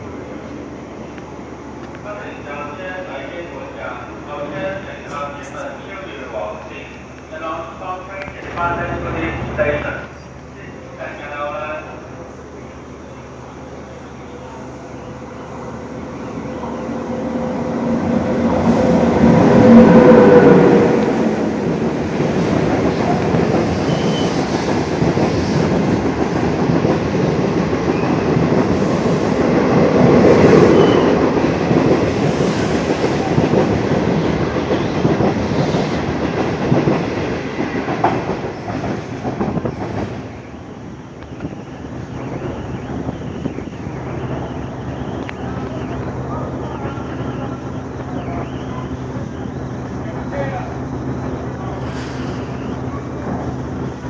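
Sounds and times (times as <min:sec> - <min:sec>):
electric locomotive passing: 0:00.0 - 0:54.0
train wheels on rails: 0:00.0 - 0:54.0.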